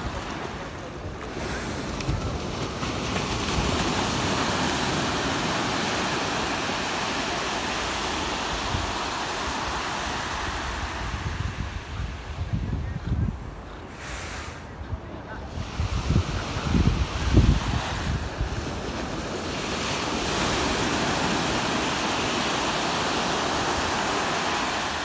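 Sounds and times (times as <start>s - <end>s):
surf washing onto beach: 0.0s - 25.0s
wind buffeting microphone: 0.0s - 25.0s.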